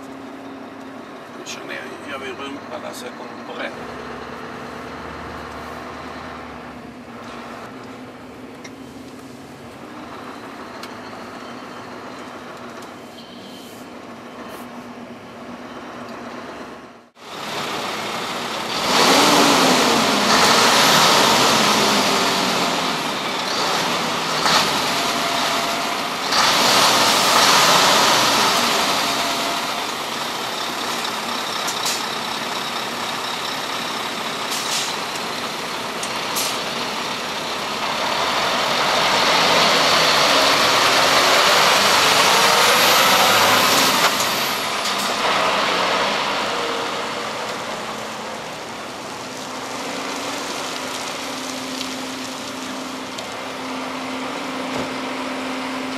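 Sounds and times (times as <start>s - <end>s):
truck engine and air noise: 0.0s - 55.9s
truck engine hum inside cab: 0.0s - 55.9s.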